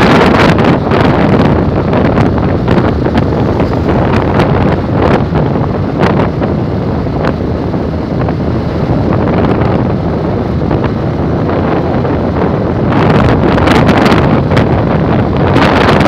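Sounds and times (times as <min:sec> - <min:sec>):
motorcycle road noise: 0:00.0 - 0:16.0
wind buffeting microphone: 0:00.0 - 0:16.0.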